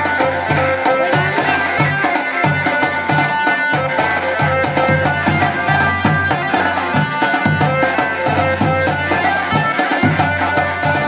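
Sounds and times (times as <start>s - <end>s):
fast drumming: 0.0s - 11.0s
held melody line: 0.0s - 11.0s.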